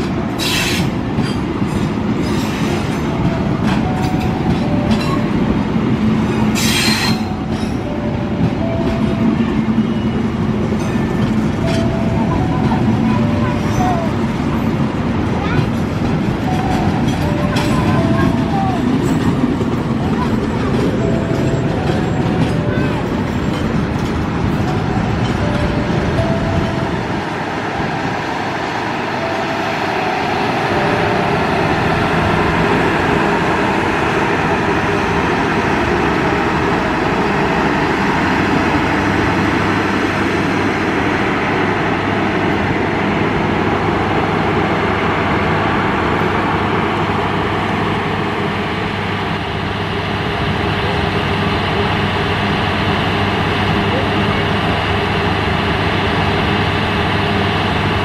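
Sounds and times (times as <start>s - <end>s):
train coaches rumbling on rails: 0.0s - 58.0s.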